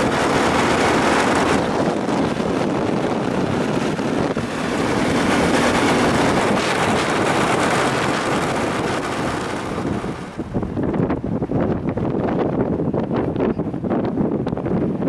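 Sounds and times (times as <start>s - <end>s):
moving vehicle running: 0.0s - 15.0s
wind buffeting microphone: 0.0s - 15.0s.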